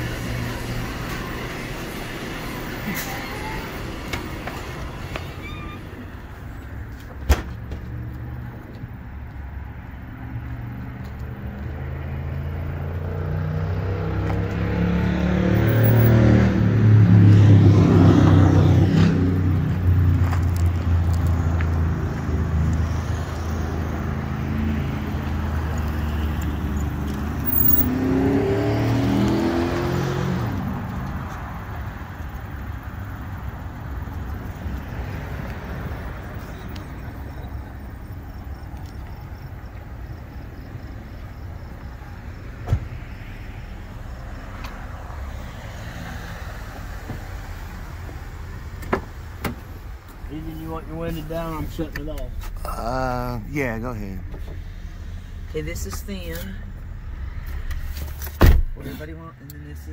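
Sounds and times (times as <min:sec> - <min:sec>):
cars passing on road: 0:00.0 - 0:59.9.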